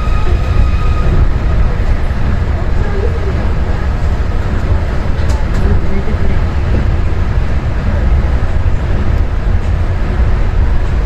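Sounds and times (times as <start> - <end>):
monorail train rumbling: 0.0 - 11.0.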